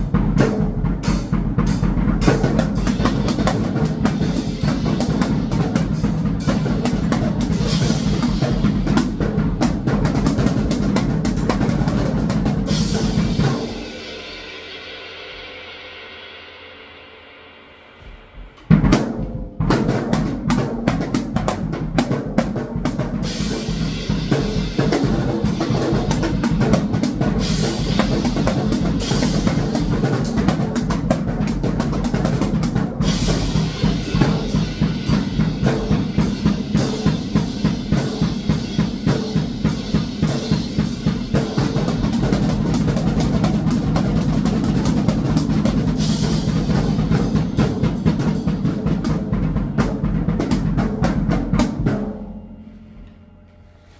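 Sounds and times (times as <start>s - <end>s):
cymbals: 0.0s - 20.3s, 22.7s - 53.9s
drum kit played hard: 0.0s - 53.3s.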